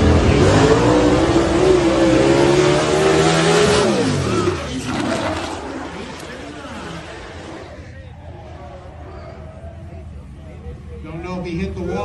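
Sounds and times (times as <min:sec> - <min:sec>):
race car engine at full throttle: 0:00.0 - 0:11.6.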